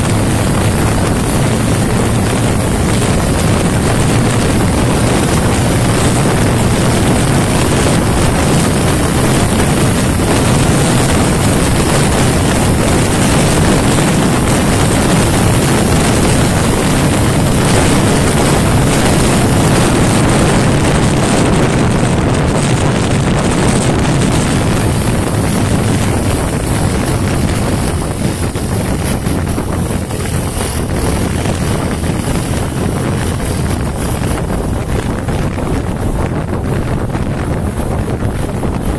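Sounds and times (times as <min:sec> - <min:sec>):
motorcycle engine at high revs: 0:00.0 - 0:38.9
wind rush on microphone: 0:00.0 - 0:38.9.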